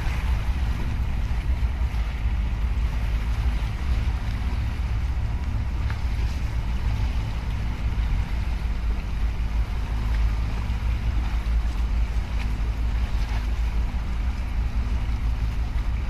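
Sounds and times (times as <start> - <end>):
container ship low rumble: 0.0 - 16.0
wind buffeting microphone: 0.0 - 16.0.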